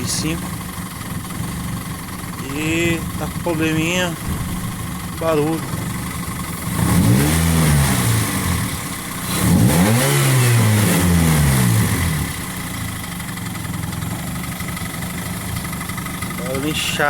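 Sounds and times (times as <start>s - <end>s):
car engine revving and idling: 0.0s - 17.0s
engine knocking noise: 0.0s - 17.0s.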